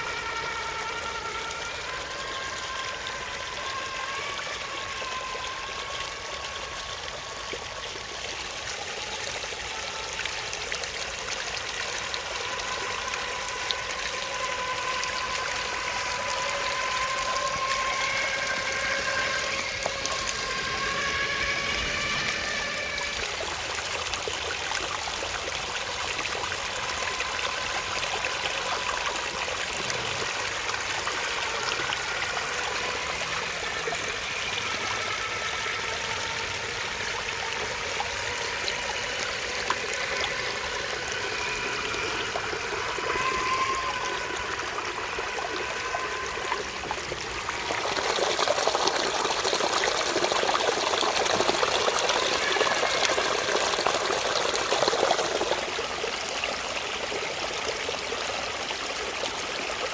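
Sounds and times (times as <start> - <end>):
stream trickling: 0.0 - 59.9
toy truck electric motor whine: 0.0 - 59.9.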